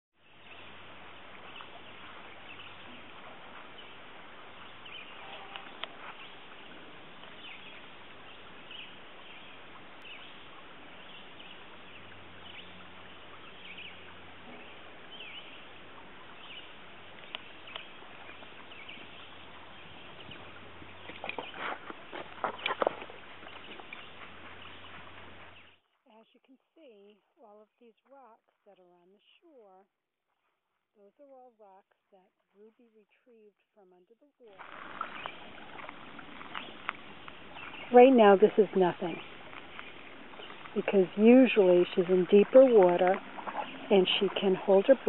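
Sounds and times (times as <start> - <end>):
small birds chirping: 0.2 - 29.9, 31.0 - 45.0.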